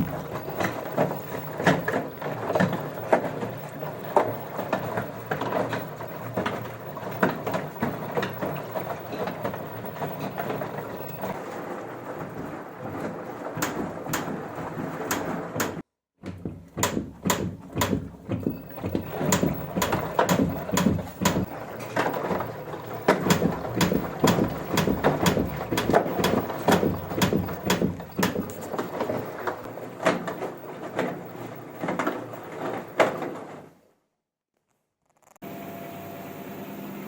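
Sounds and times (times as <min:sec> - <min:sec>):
washing machine knocking and rattling: 0:00.0 - 0:33.8.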